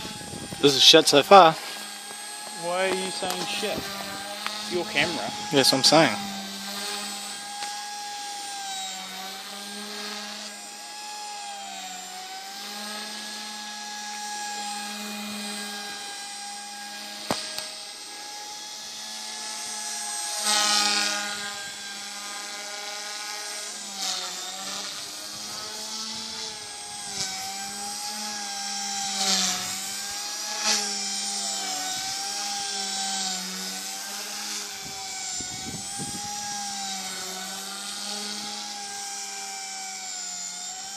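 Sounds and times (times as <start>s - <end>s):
rc helicopter rotor whine: 0.0s - 40.9s.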